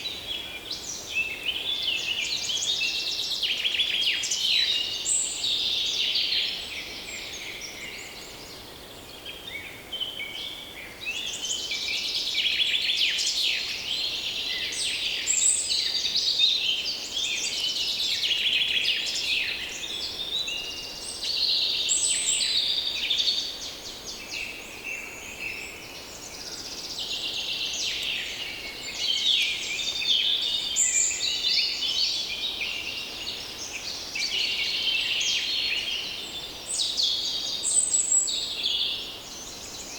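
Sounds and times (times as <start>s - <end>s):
faint breeze: 0.0s - 39.9s
forest birds singing and calling: 0.0s - 39.9s.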